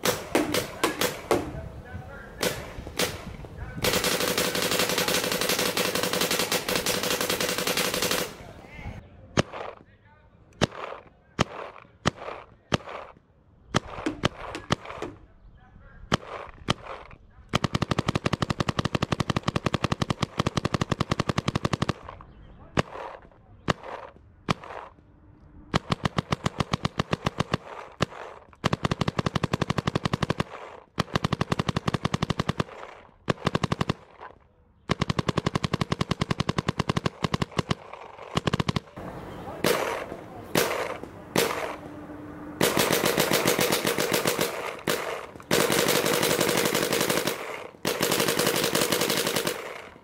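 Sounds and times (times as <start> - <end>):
paintball marker firing: 0.0 - 1.7, 2.4 - 8.6, 9.4 - 9.9, 10.6 - 15.2, 16.1 - 25.1, 25.7 - 42.0, 42.6 - 50.0.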